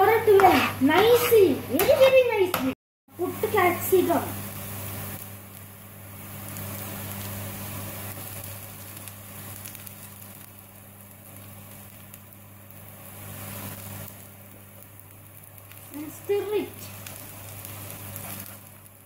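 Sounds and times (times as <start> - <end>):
vegetables sizzling in oil: 0.0 - 2.4, 3.1 - 19.0.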